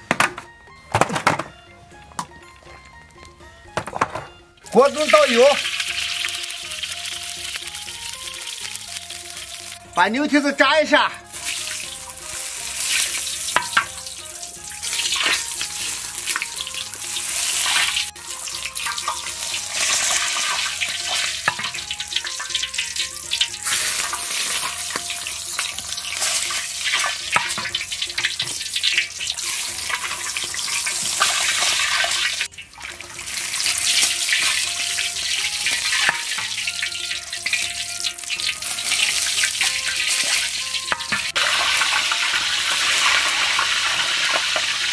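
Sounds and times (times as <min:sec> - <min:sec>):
hot oil sizzling and crackling: 0:04.6 - 0:44.9.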